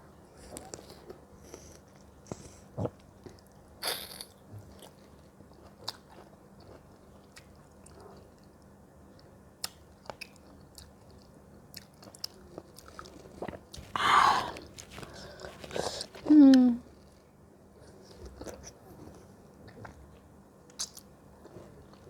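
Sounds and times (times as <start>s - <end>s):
person chewing crisp fruit: 0.5s - 8.5s, 9.2s - 17.2s, 17.8s - 22.0s.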